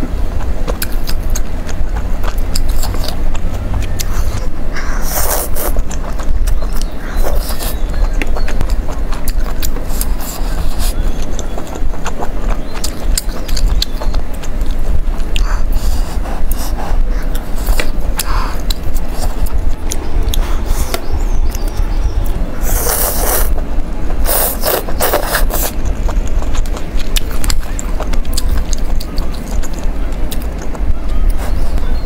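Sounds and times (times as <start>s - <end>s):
person chewing food: 0.0s - 32.0s
steady low rumble: 0.0s - 32.0s.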